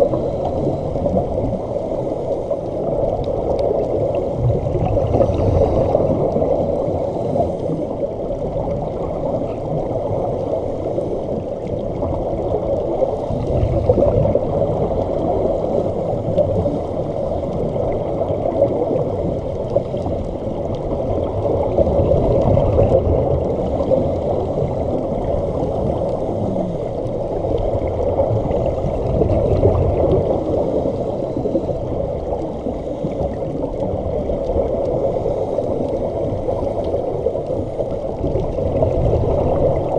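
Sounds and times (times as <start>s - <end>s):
exhaled bubbles underwater: 0.0s - 39.9s
underwater regulator rumble: 0.0s - 39.9s.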